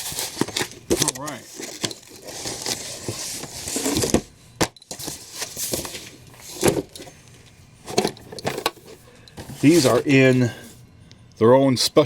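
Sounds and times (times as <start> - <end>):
packing material rustling: 0.0 - 4.3, 4.9 - 10.7.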